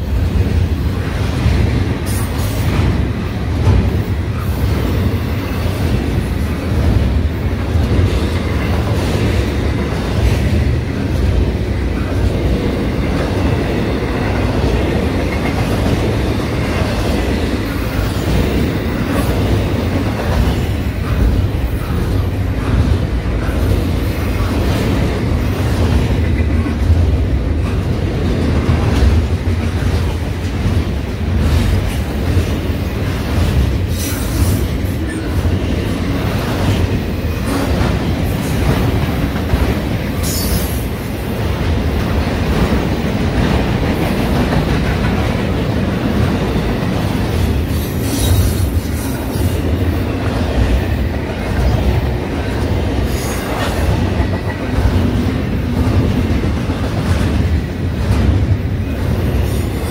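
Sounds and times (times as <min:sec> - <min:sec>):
clickety-clack of train trucks: 0:00.0 - 0:59.9
steel wheels rumbling on rail: 0:00.0 - 0:59.9.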